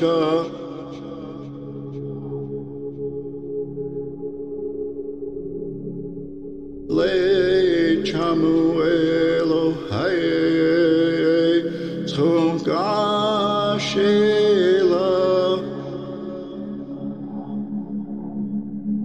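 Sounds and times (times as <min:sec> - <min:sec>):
person chanting: 0:00.0 - 0:03.2, 0:06.9 - 0:19.0
low drone: 0:00.0 - 0:19.0.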